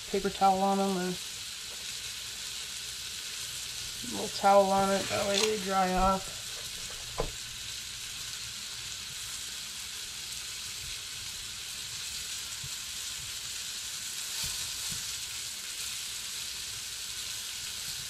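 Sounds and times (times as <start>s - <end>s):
fish sizzling in butter: 0.0s - 18.0s.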